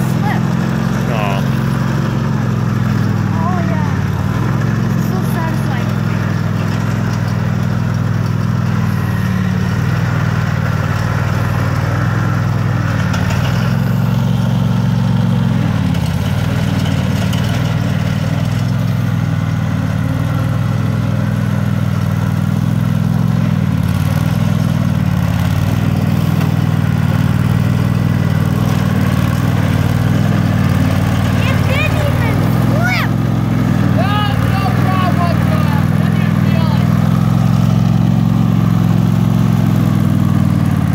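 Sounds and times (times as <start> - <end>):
lawn mower engine under load: 0.0 - 40.9.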